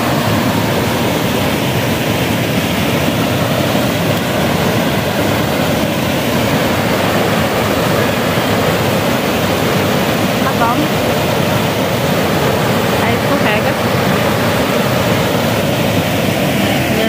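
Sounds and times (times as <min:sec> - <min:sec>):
small waterfall pouring into pool: 0:00.0 - 0:17.0.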